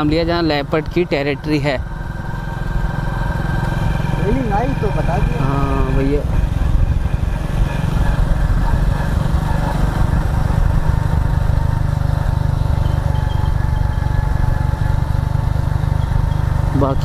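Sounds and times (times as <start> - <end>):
motorcycle engine low rumble: 0.0 - 17.0.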